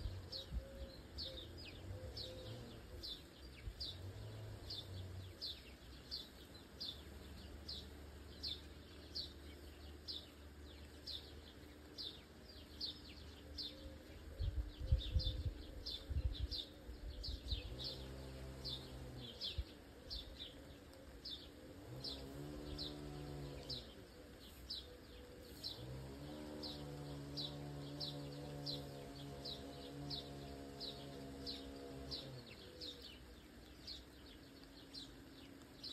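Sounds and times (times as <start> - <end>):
bird chirping: 0.0 - 35.9.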